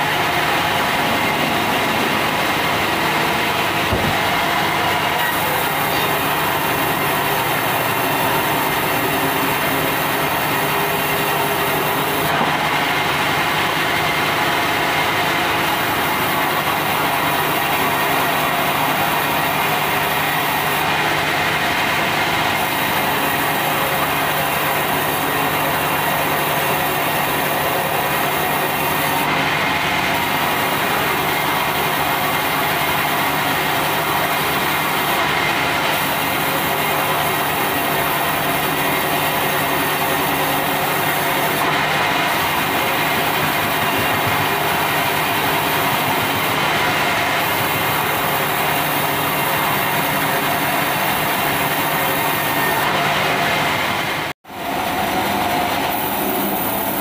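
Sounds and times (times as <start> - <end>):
band saw cutting timber: 0.0 - 53.6.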